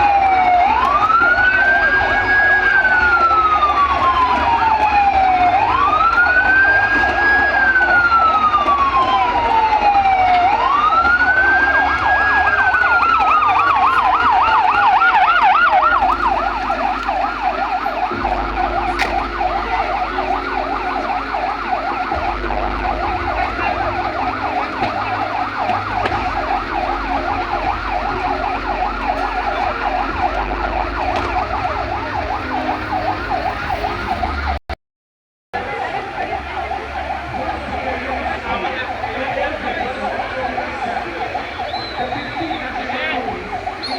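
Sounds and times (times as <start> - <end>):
siren fast warbling yelp: 0.0 - 34.6, 35.6 - 43.9
siren slow wail: 0.0 - 34.7, 35.6 - 43.9.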